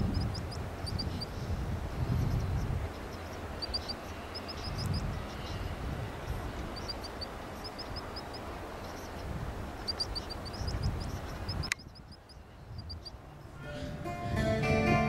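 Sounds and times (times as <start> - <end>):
small bird chirping: 0.0 - 1.5, 2.1 - 13.5.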